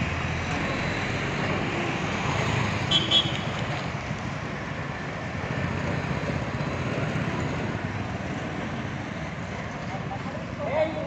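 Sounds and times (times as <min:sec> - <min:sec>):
low traffic rumble: 0:00.0 - 0:11.0
scooters and cars passing: 0:00.0 - 0:11.0.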